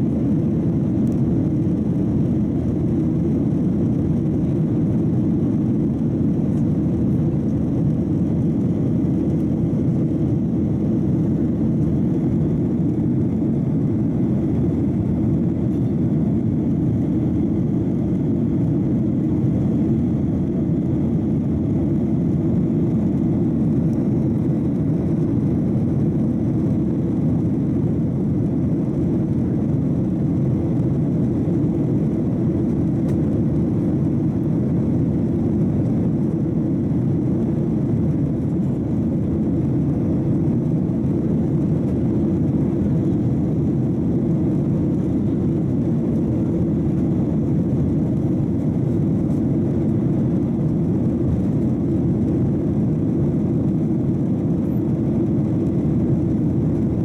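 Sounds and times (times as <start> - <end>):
jet engines droning: 0.0 - 57.0.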